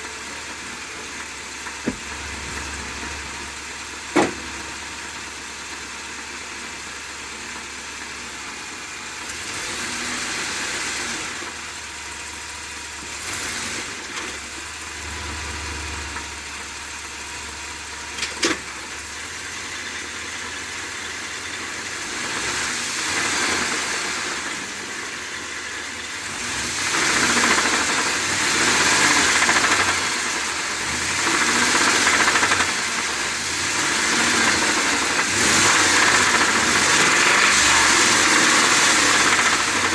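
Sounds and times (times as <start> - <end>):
engine running with abnormal noise: 0.0 - 39.9.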